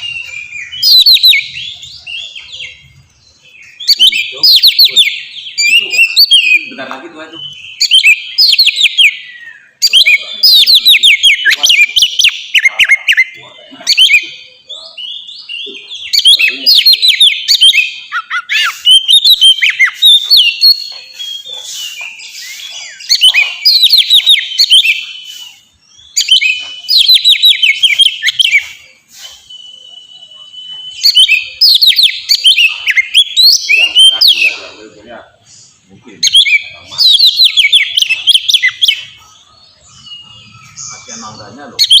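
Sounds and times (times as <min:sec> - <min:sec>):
magpie-robin singing whistled phrases: 0:00.0 - 0:42.0.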